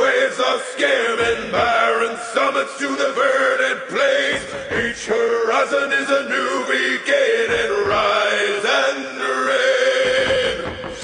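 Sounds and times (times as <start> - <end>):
chanting voices: 0.0 - 11.0.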